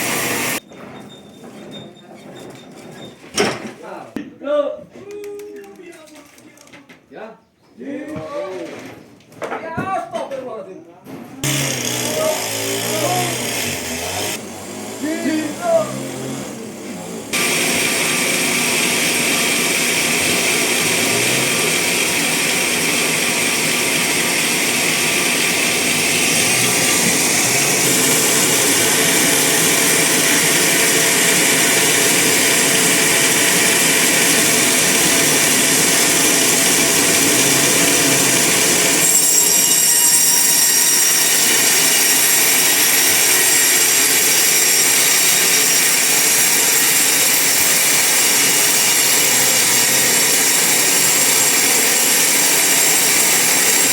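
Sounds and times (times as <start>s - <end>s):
bandsaw cutting log: 0.0s - 0.6s, 11.4s - 53.9s.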